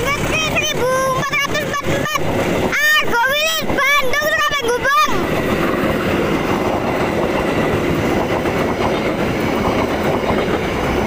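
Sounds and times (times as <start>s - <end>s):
train carriages rolling past: 0.0s - 11.0s
wheels clattering over track: 0.0s - 11.0s.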